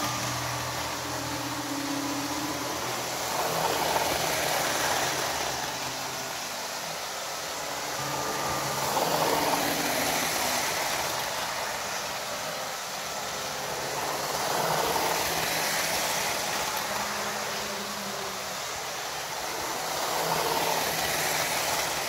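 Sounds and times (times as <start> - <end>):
model train motor hum: 0.0 - 22.0
wheels rattling over rails: 0.0 - 22.0.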